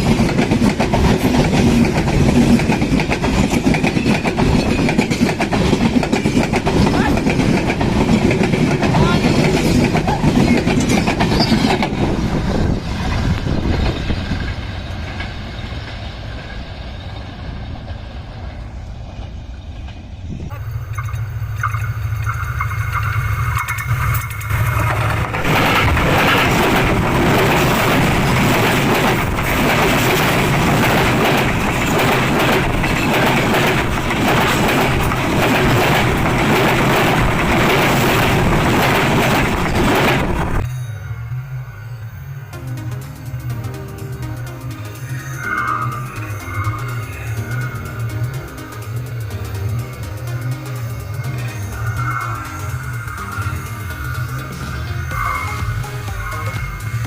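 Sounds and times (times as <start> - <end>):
train carriages rumbling and rattling: 0.0 - 57.0.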